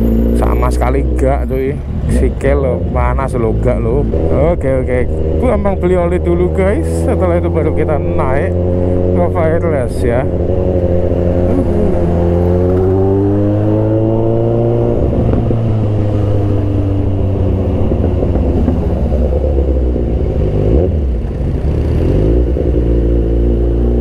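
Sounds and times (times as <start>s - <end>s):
motorcycle engine running: 3.6s - 24.0s.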